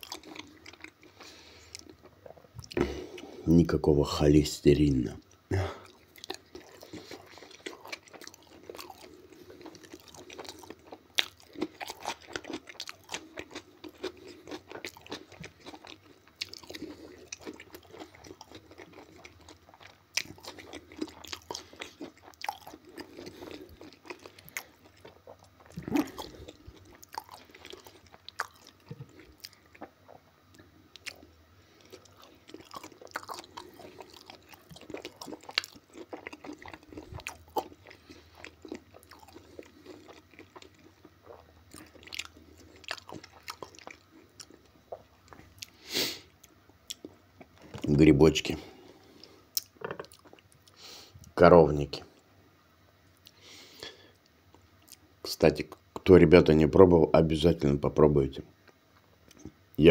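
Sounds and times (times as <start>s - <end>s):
crunchy chewing: 0.0s - 3.4s, 5.8s - 50.9s.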